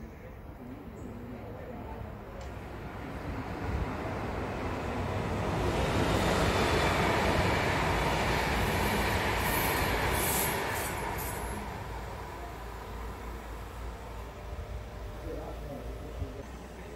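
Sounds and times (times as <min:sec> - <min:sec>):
train wheels rumbling on track: 0:02.4 - 0:16.4.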